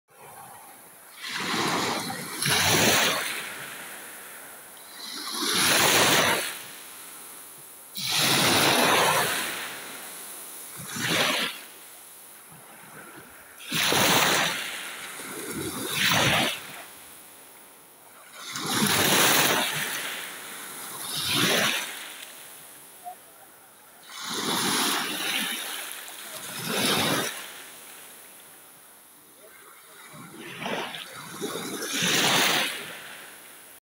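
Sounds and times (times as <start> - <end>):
small waves splashing on shore: 0.1 - 33.8.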